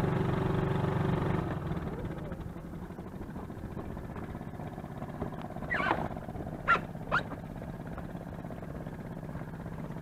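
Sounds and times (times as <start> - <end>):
outboard motor idling: 0.0 - 10.0.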